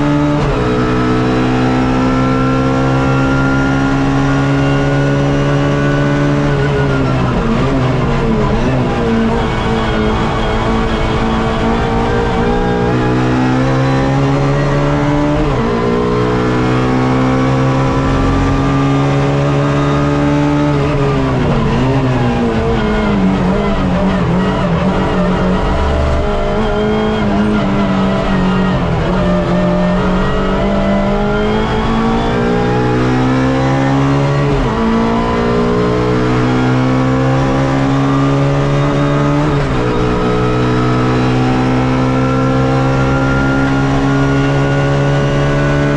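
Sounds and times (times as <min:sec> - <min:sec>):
race car engine at full throttle: 0:00.0 - 0:45.9.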